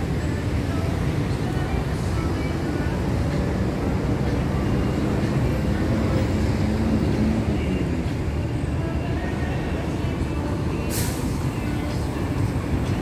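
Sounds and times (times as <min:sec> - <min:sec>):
city street traffic rumble: 0:00.0 - 0:13.0
faint engine hum: 0:00.0 - 0:13.0.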